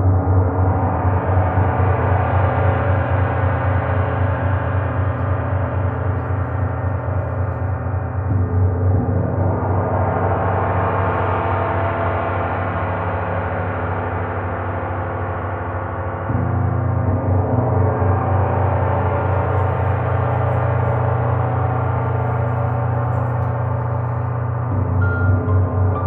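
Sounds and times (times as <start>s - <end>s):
slow pulsing hum: 0.0s - 26.0s.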